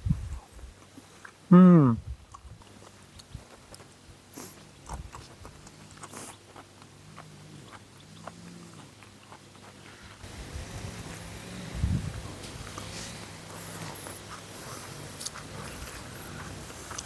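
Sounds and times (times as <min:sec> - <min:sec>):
dog chewing and eating: 0:02.2 - 0:17.0.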